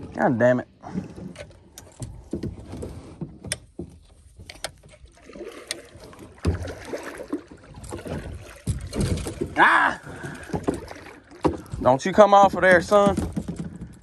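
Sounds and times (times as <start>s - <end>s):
knocks and scrapes on kayak: 0.0s - 14.0s.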